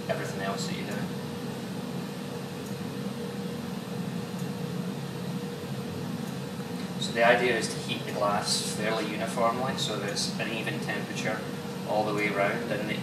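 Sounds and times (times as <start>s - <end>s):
burner flame hiss and rumble: 0.0s - 13.0s
faint steady hum: 0.0s - 13.0s.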